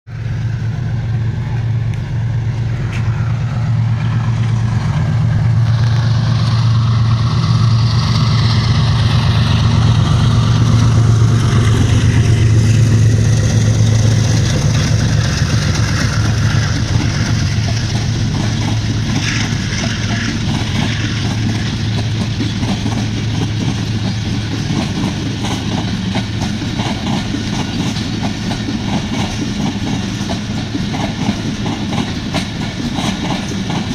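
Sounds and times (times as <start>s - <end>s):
diesel locomotive engine drone: 0.0s - 33.9s
train wheels clattering over rail joints: 1.5s - 33.9s.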